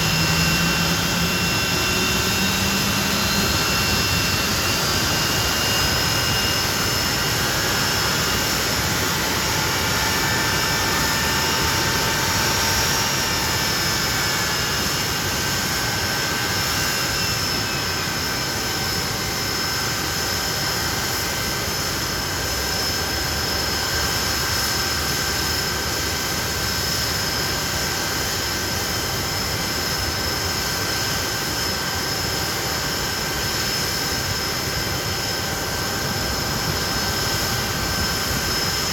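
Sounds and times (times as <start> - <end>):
high jet whine: 0.0 - 38.9
jet engine rumble: 0.0 - 38.9.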